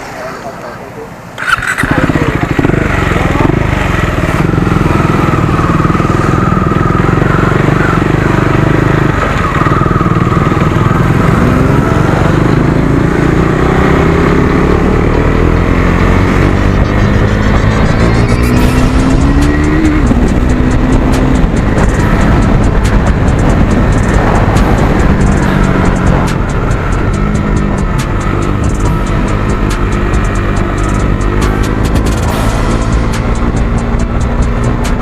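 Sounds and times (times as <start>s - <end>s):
motorcycle engine running loud: 1.4s - 35.0s.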